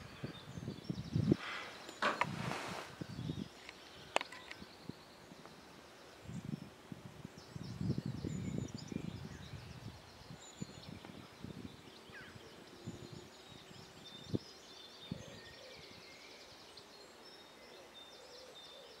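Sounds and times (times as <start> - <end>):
small birds singing and trilling: 0.0 - 19.0.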